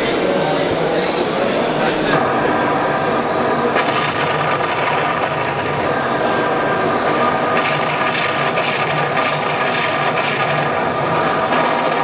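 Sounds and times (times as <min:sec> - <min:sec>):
ship machinery rumble: 0:00.0 - 0:12.0.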